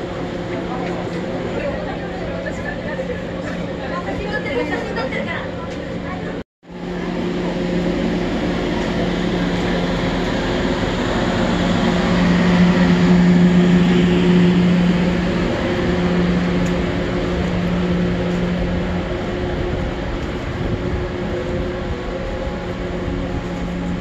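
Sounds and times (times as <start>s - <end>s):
standing train humming: 0.0s - 24.0s.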